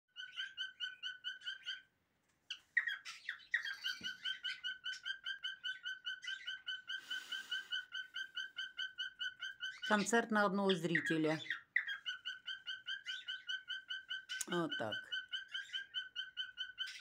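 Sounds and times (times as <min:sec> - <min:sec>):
cockatiel chirping and whistling: 0:00.1 - 0:01.8, 0:02.8 - 0:09.9, 0:11.4 - 0:14.5, 0:15.1 - 0:17.0.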